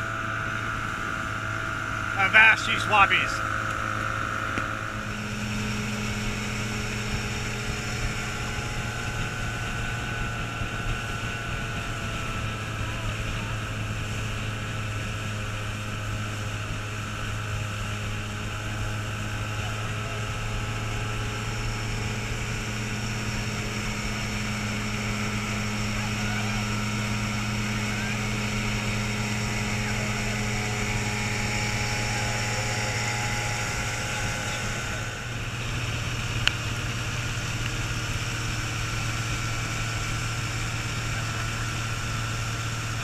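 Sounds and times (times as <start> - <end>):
outboard motors droning: 0.0 - 43.0
water rushing along hull: 0.0 - 43.0.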